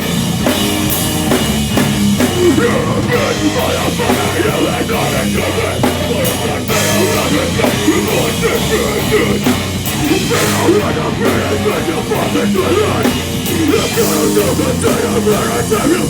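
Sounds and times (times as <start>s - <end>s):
bass guitar: 0.0s - 16.0s
distorted guitars: 0.0s - 16.0s
drum kit with crashing cymbals: 0.0s - 16.0s.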